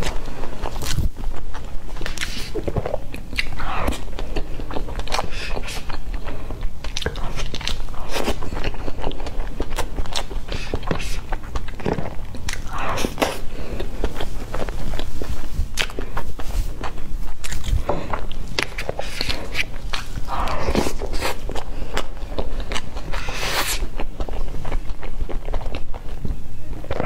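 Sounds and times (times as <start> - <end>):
person chewing and smacking: 0.0 - 27.0.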